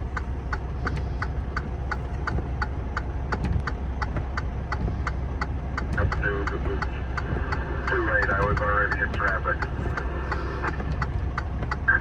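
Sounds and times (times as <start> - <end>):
idling engine rumble: 0.0 - 12.0
steady even clicking: 0.1 - 11.9.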